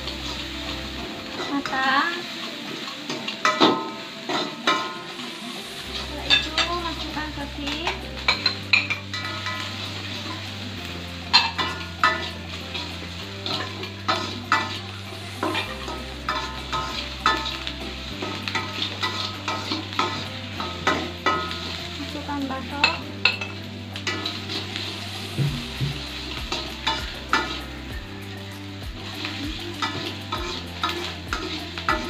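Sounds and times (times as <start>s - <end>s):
food sizzling in a wok: 0.0s - 32.0s
utensils scraping a pan: 0.0s - 32.0s.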